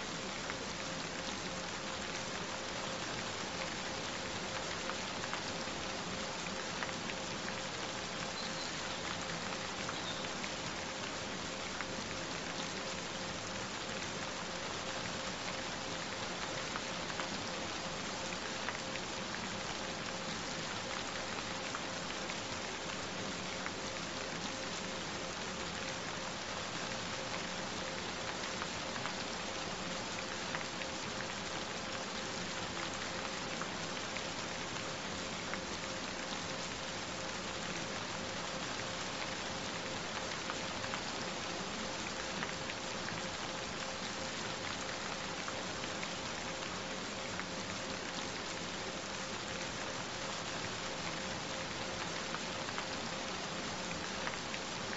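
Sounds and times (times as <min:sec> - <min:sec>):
faint steady pure tone: 0:00.0 - 0:54.9
steady rain: 0:00.0 - 0:54.9.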